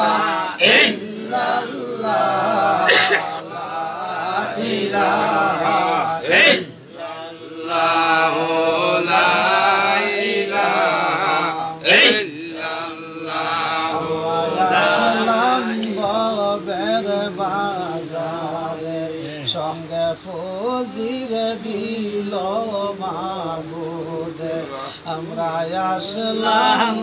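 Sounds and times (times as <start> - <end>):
man chanting: 0.0 - 27.0.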